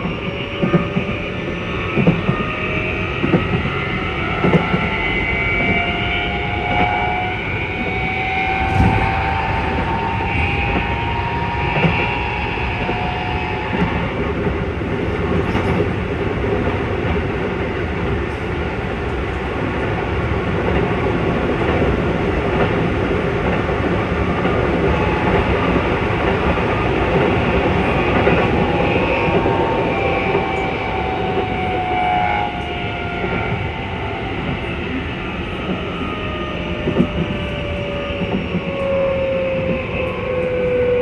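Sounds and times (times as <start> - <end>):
train wheel and rail rumble: 0.0 - 41.0.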